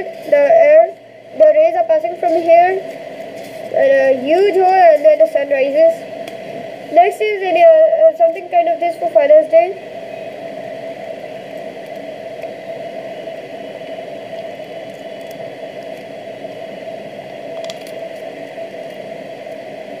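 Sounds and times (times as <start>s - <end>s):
steady whirring hum: 0.0s - 20.0s.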